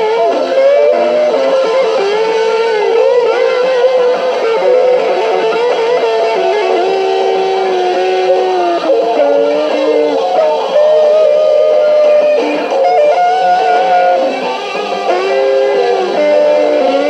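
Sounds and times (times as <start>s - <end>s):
electric guitar lead line: 0.0s - 17.0s
music: 0.0s - 17.0s.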